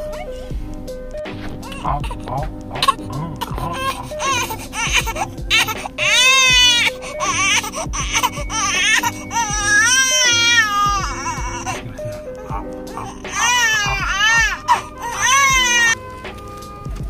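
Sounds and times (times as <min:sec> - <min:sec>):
background music: 0:00.0 - 0:17.0
baby crying: 0:01.6 - 0:16.0.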